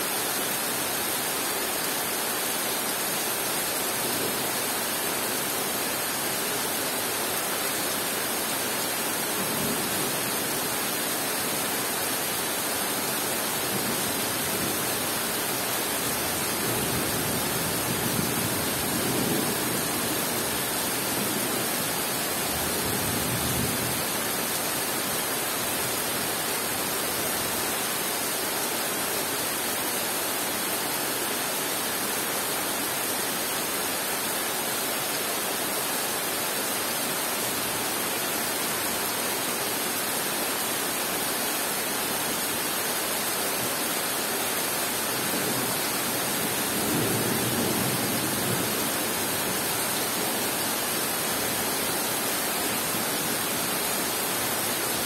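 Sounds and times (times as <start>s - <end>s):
heavy rain on foliage: 0.0s - 55.0s.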